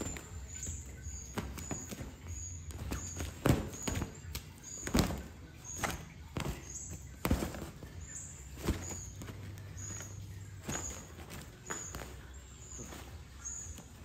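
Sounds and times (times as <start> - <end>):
thumps and rustles in fabric tunnel: 0.0 - 14.0.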